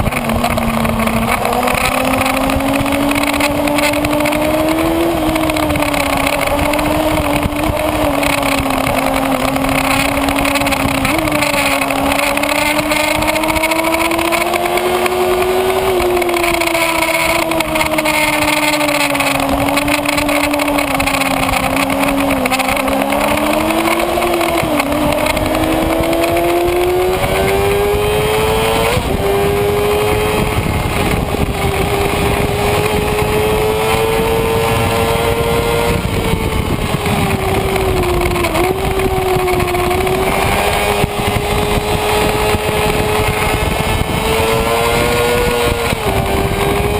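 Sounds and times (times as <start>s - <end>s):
motorcycle engine at high revs: 0.0s - 46.9s
wind noise rushing: 0.0s - 46.9s.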